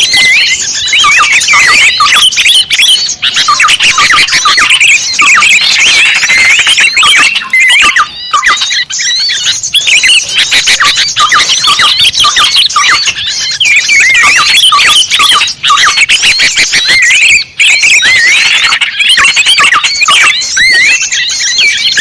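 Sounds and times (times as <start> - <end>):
chorus of small birds chirping: 0.0 - 22.0.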